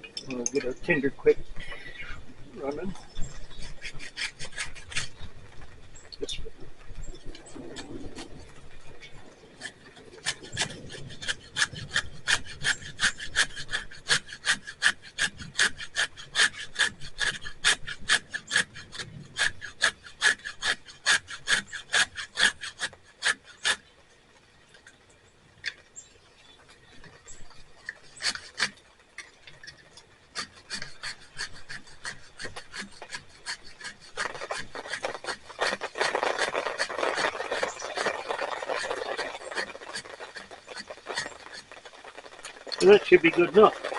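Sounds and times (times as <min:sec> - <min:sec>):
steel edge scraping wood: 0:00.0 - 0:06.2, 0:06.8 - 0:23.9, 0:26.7 - 0:43.9
rustle: 0:00.0 - 0:43.9.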